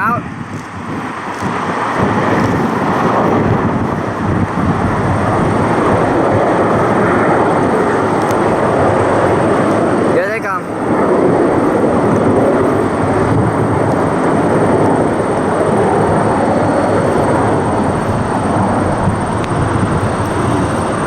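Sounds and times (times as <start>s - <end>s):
jet engines passing low: 0.0s - 21.0s.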